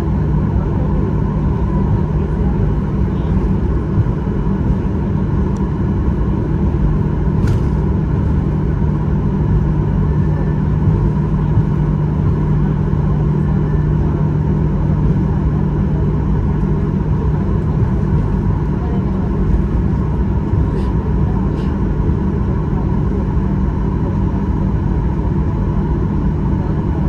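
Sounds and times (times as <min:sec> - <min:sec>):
airliner engines rumbling in cabin: 0:00.0 - 0:27.0.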